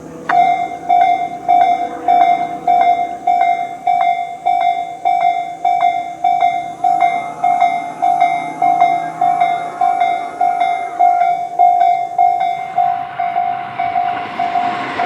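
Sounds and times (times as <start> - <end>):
level-crossing alarm ringing: 0.0 - 15.0.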